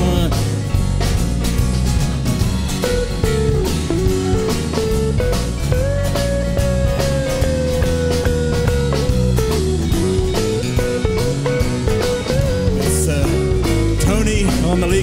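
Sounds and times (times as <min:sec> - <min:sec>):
electric lead guitar melody: 0:00.0 - 0:15.0
live rock band playing: 0:00.0 - 0:15.0.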